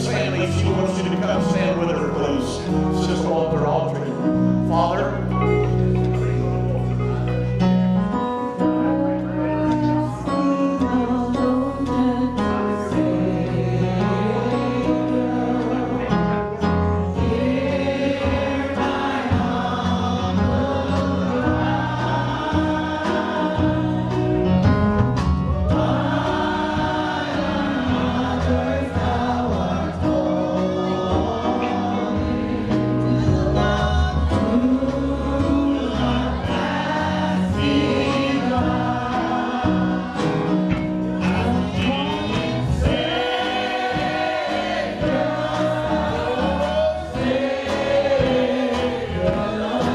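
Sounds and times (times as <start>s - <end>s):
choir singing gospel music: 0.0s - 49.9s
instrumental backing music: 0.0s - 49.9s.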